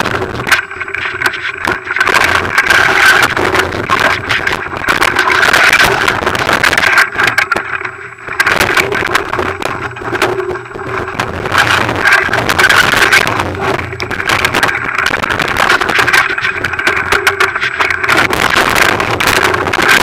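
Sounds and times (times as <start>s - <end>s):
camera rattling and knocking: 0.0s - 20.0s
steady drone: 0.0s - 20.0s.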